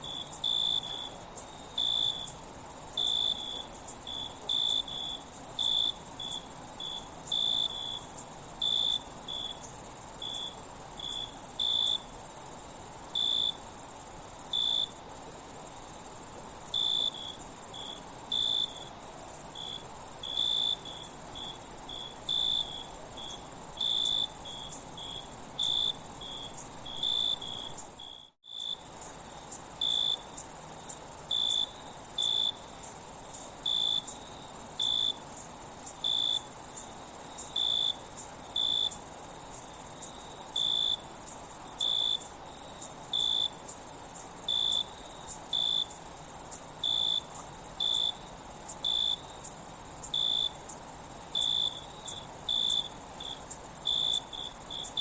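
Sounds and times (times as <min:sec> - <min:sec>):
crickets trilling: 0:00.0 - 0:55.0
lower cricket chirping in pulses: 0:00.0 - 0:55.0.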